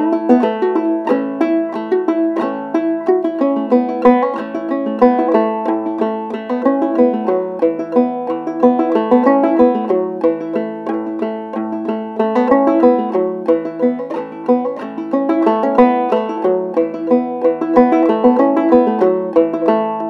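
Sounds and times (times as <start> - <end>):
banjo tune: 0.0 - 20.0.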